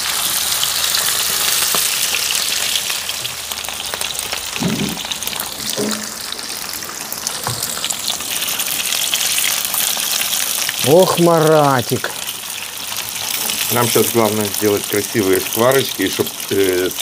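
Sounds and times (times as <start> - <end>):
pork fat sizzling in a pan: 0.0 - 17.0.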